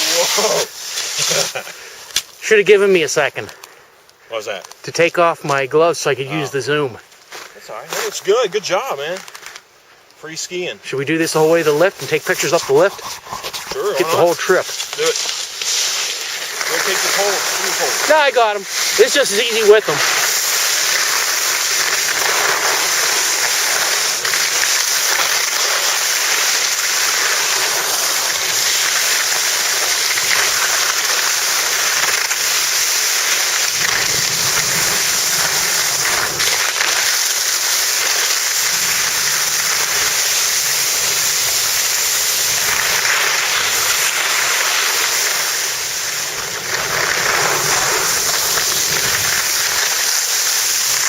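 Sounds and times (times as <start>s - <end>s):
skis scraping on packed snow: 0.0s - 3.6s, 4.3s - 9.6s, 10.2s - 51.0s
wind hiss over microphone: 7.7s - 51.0s.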